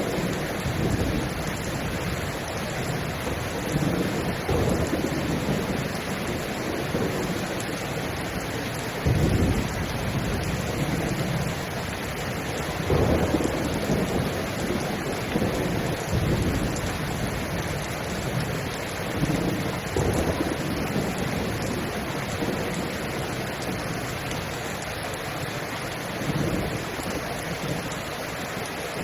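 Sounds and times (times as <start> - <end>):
low rumbles of thunder: 0.0 - 24.3
steady rain hissing: 0.0 - 29.0.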